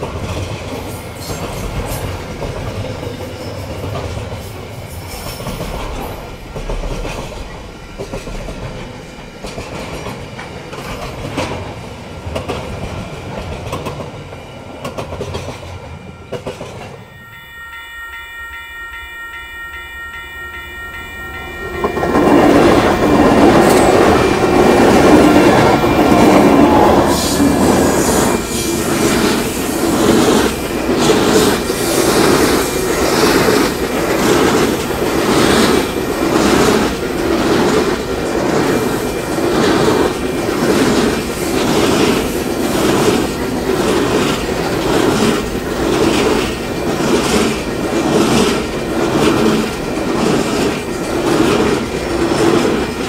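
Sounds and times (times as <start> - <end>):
diesel locomotives passing: 0.0 - 53.0.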